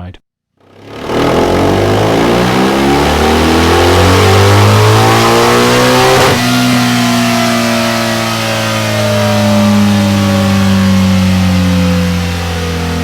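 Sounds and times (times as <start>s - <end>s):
motorcycle engine revving: 0.6s - 13.0s.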